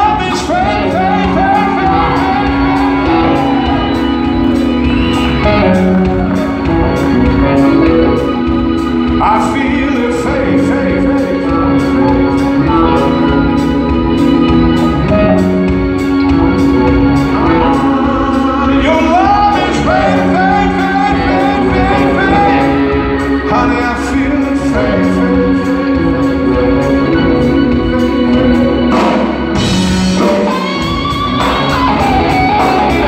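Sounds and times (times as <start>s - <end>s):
drums with cymbal beat: 0.0s - 33.0s
electric bass: 0.0s - 33.0s
electric guitar chords: 0.0s - 33.0s.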